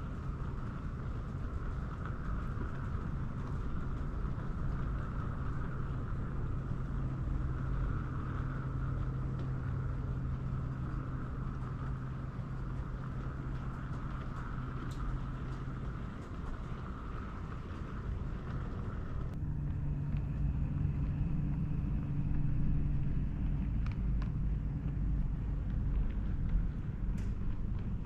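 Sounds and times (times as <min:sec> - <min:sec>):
model locomotive engine hum: 0:00.0 - 0:28.0
wheels rumbling on track: 0:00.0 - 0:28.0.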